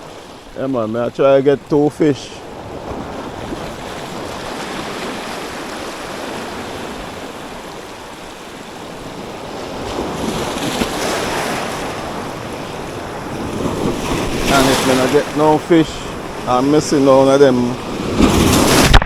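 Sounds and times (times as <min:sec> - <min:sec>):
sea waves washing against rocks: 0:00.0 - 0:19.0.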